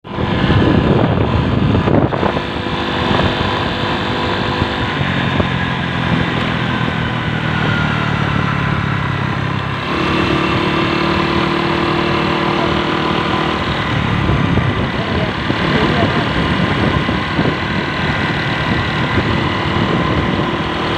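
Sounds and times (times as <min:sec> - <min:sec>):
vehicle engine running: 0:00.0 - 0:20.9.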